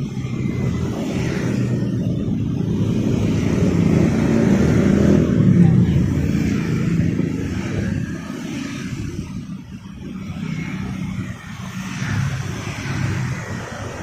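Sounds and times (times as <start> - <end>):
passing vehicle engines and tyres: 0.0 - 14.0.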